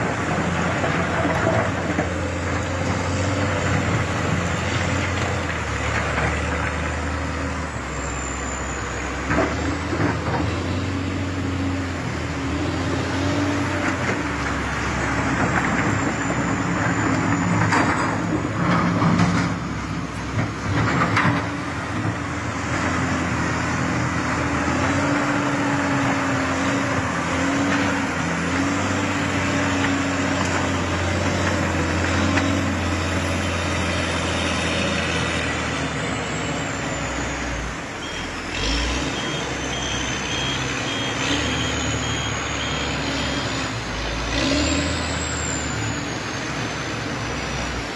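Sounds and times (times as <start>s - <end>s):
diesel machine engine running: 0.0s - 47.9s.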